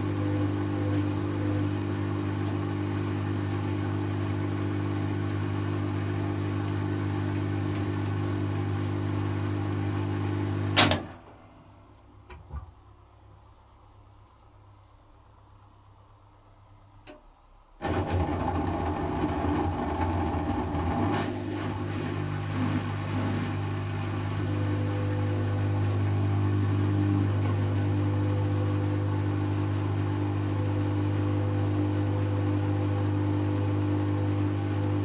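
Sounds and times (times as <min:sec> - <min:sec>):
washing machine spinning hum: 0:00.0 - 0:35.0.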